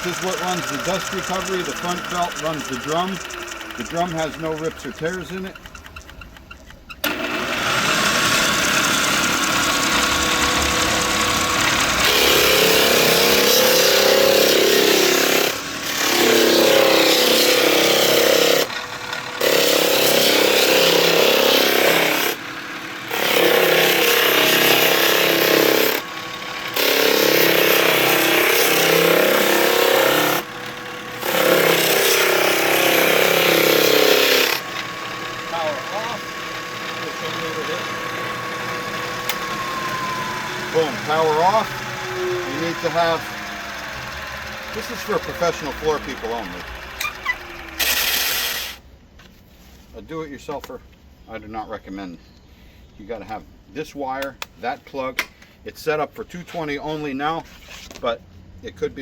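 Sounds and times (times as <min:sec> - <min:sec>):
floor sander humming: 0:00.0 - 0:05.9, 0:07.0 - 0:48.8.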